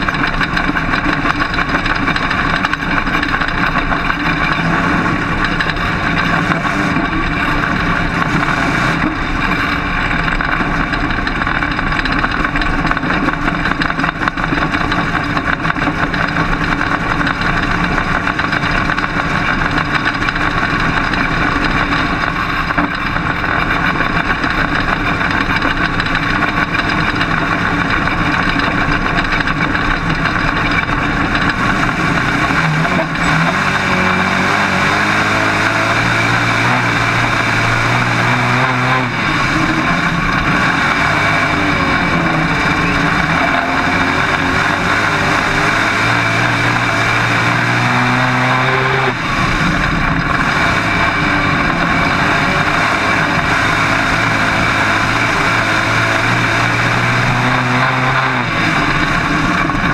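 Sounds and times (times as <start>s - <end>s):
heavy wind and road noise: 0.0s - 59.9s
race car engine at speed: 0.0s - 59.9s.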